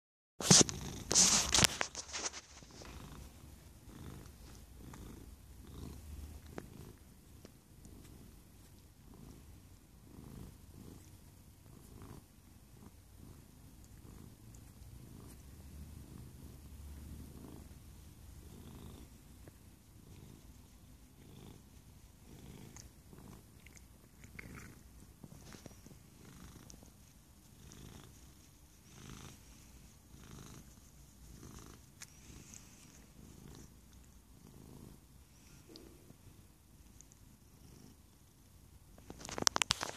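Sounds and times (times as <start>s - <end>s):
cat purring: 0.4s - 39.8s.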